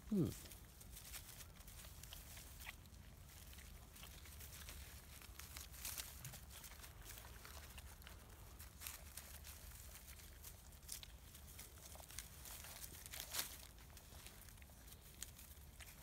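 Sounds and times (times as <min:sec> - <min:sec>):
crackles: 0:00.0 - 0:16.0
low steady rumble: 0:00.0 - 0:16.0
puppies rustling on dry leaves: 0:00.0 - 0:16.0.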